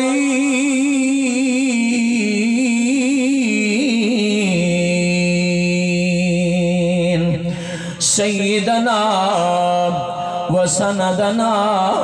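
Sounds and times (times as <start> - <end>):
man chanting through microphone: 0.0 - 12.0.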